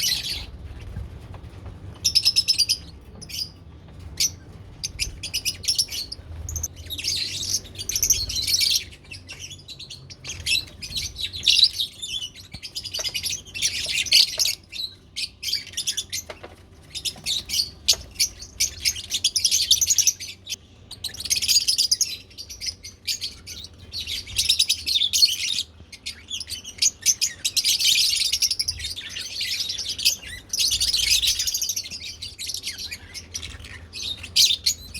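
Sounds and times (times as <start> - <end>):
lovebirds chirping: 0.0 - 1.2, 1.9 - 34.9.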